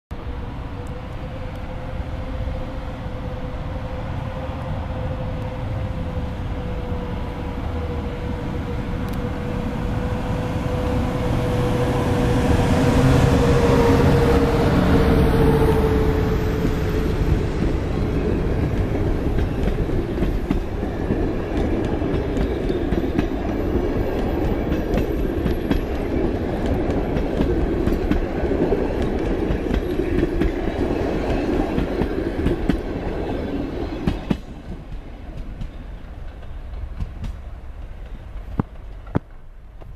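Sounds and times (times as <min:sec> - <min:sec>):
electric locomotive whine: 0:00.1 - 0:39.9.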